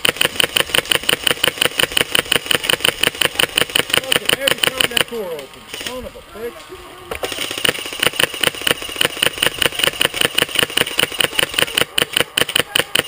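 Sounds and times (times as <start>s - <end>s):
airsoft gun firing full-auto: 0.0s - 5.1s, 7.2s - 13.0s.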